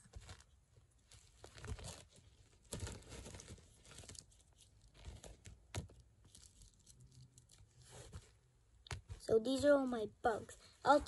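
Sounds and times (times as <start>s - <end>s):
plastic toy figures rustling: 0.0s - 11.0s.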